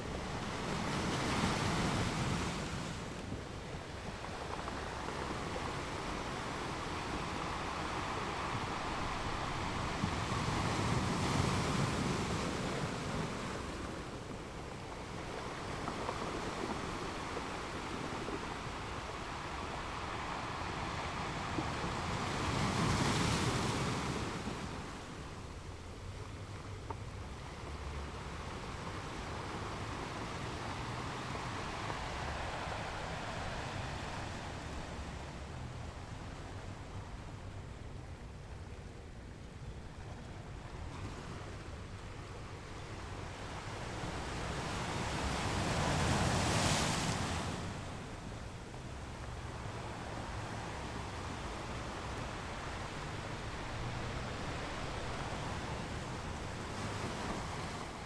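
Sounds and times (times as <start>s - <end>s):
ocean waves on shore: 0.0s - 58.0s.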